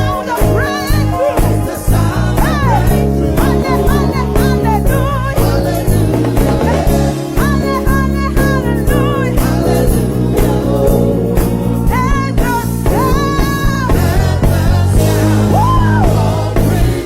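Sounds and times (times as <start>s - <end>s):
praise band playing gospel music: 0.0s - 17.0s.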